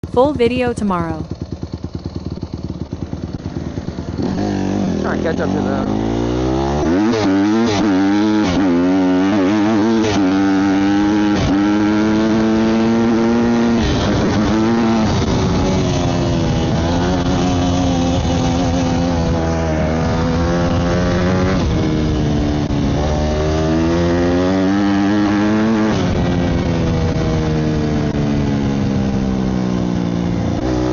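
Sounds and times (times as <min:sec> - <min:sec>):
dirt bike engine revving: 0:01.8 - 0:27.4.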